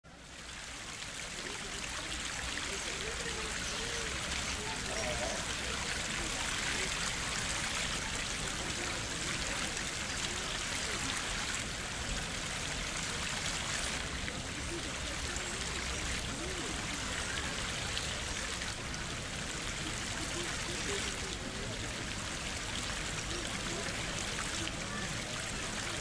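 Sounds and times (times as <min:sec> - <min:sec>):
faint voices: 0:00.1 - 0:26.0
water flowing into pond: 0:00.1 - 0:26.0.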